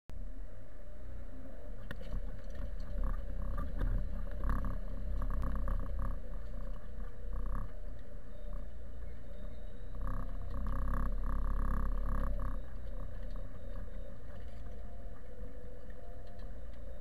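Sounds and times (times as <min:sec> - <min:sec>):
tractor diesel engine rumbling: 0:01.9 - 0:17.0.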